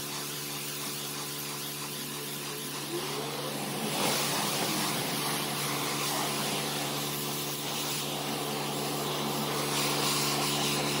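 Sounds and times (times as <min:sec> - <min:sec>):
pressure washer motor drone: 0:00.0 - 0:11.0
water jet hissing on concrete: 0:00.0 - 0:11.0.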